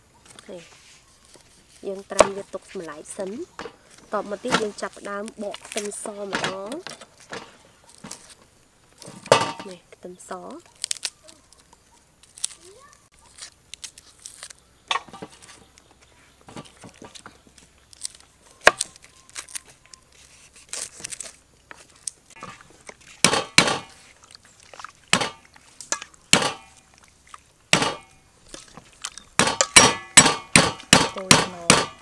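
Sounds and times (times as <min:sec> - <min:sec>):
papery skins crackling: 0:00.3 - 0:32.0.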